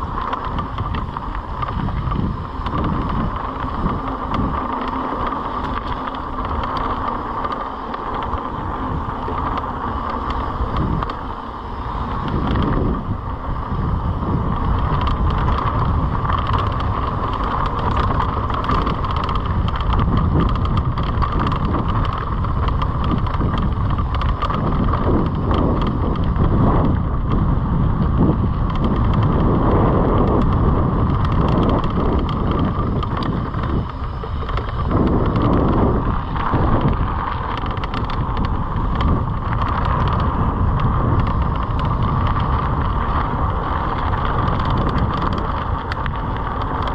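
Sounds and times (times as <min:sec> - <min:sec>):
bike rattling over bumps: 0:00.0 - 0:46.9
bike tyres rumbling on dirt: 0:00.0 - 0:46.9
wind rushing over microphone: 0:00.0 - 0:46.9.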